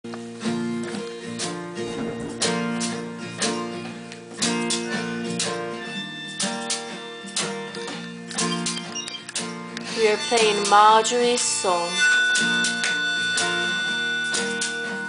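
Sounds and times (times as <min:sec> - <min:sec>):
acoustic guitar strumming: 0:00.2 - 0:15.0.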